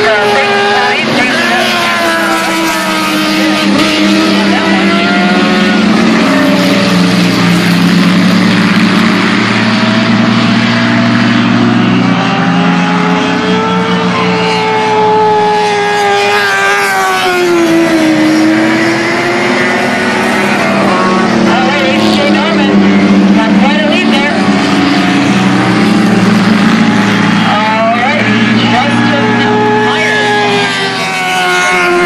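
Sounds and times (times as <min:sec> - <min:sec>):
race truck engines revving: 0:00.0 - 0:32.0.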